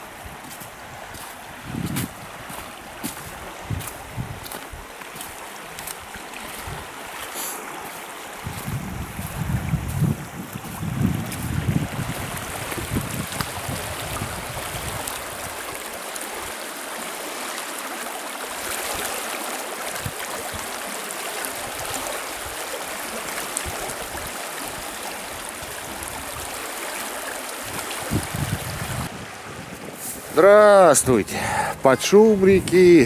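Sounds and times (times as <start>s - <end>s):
river water rushing: 0.0s - 10.4s, 11.4s - 33.0s.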